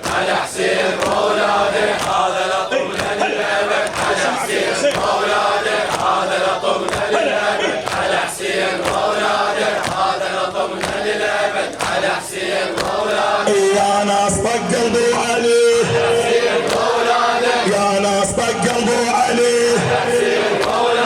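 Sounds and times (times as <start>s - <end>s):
men chanting a lament refrain: 0.0s - 21.0s
rhythmic chest-beating: 0.0s - 21.0s.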